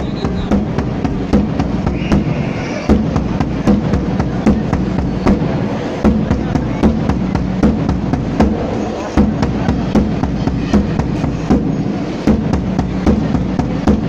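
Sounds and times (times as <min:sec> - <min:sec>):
bass drum beaten with sticks: 0:00.0 - 0:14.0.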